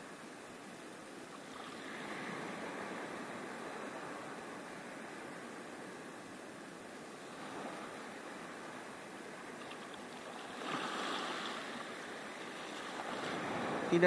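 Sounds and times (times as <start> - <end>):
small waves washing on sand: 1.3 - 14.0.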